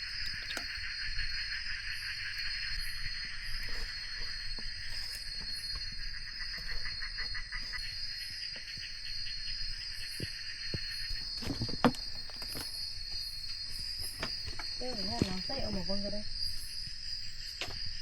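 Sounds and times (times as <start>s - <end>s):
jungle insects droning and trilling: 0.0s - 18.0s.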